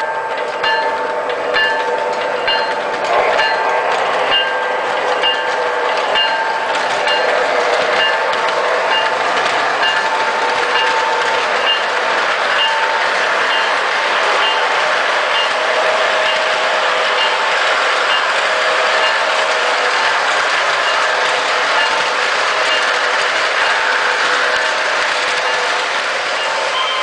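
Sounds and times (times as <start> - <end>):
model locomotive bell ringing: 0.0 - 27.0
model train rolling and motor noise: 0.0 - 27.0.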